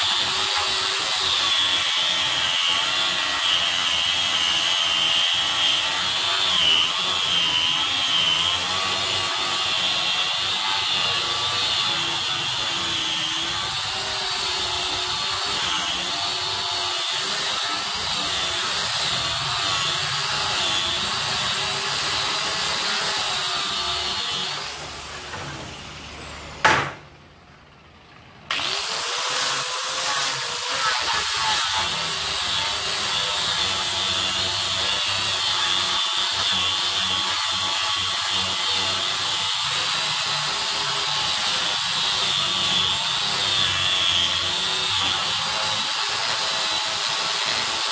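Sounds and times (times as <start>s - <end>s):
angle grinder sanding wood: 0.0s - 25.6s, 28.5s - 47.9s.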